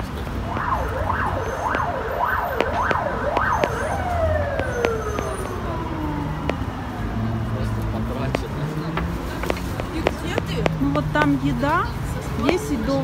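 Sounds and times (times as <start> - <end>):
emergency vehicle siren wailing: 0.0 - 13.0.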